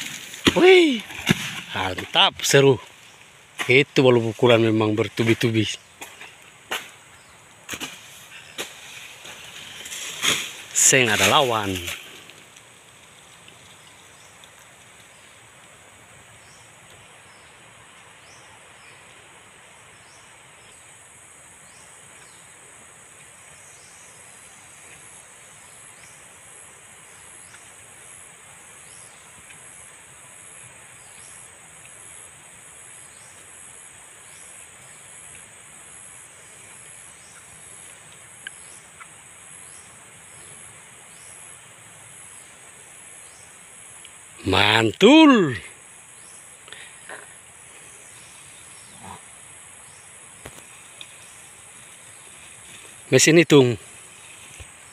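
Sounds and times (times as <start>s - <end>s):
insect chorus: 0.0s - 54.9s.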